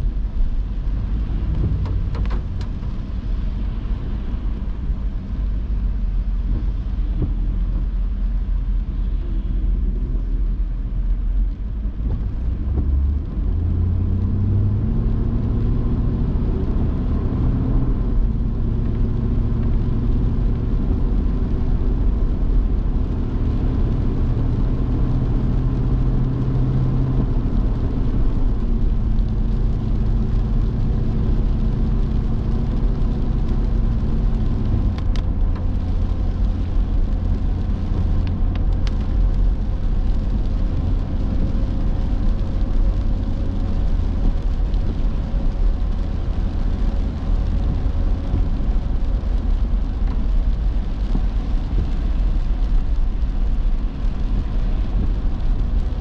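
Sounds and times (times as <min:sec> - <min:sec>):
car engine: 0:00.0 - 0:56.0
tyre noise on wet road: 0:00.0 - 0:56.0.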